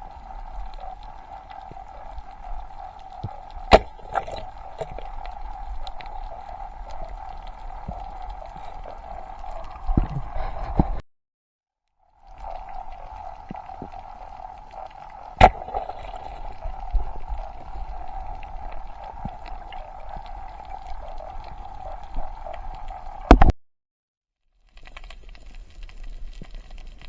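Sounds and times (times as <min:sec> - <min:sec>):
gurgling water: 0:00.0 - 0:11.0, 0:12.0 - 0:23.5.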